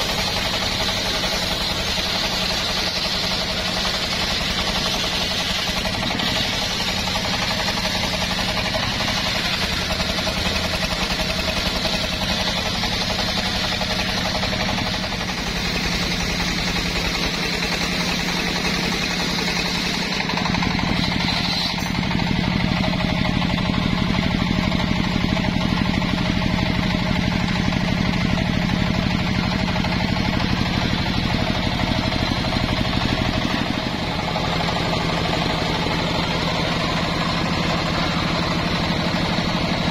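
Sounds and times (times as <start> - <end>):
circular saw cutting log: 0.0 - 39.9
sawmill engine running: 0.0 - 39.9.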